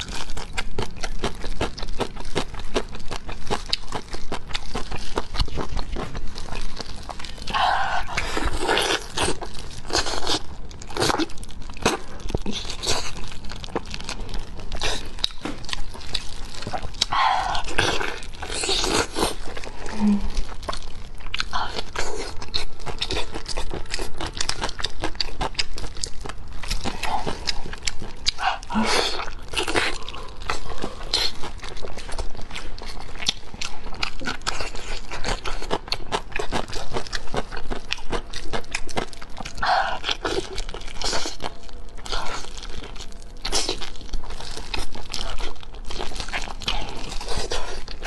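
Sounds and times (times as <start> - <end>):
wet chewing and biting: 0.0 - 48.0.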